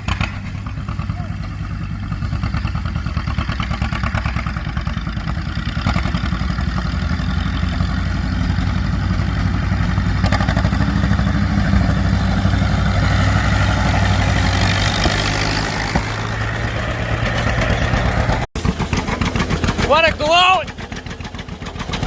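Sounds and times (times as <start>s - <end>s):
tractor engines running: 0.0s - 22.0s.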